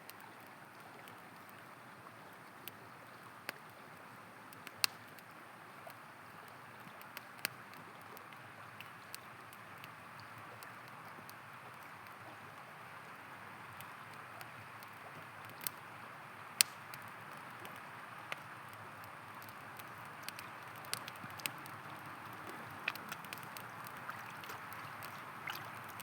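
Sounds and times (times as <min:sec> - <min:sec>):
campfire crackling and popping: 0:02.5 - 0:26.0.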